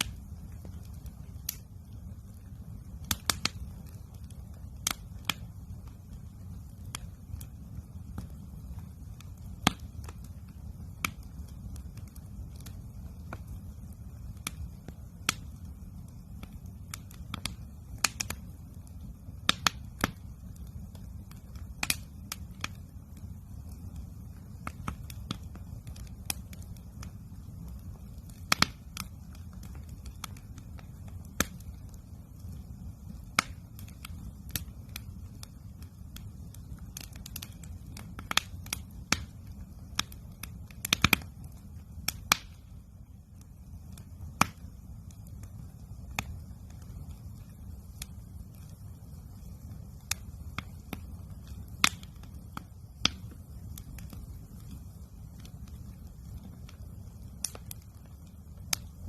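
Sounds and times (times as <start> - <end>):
campfire wood crackling: 0.0 - 59.0.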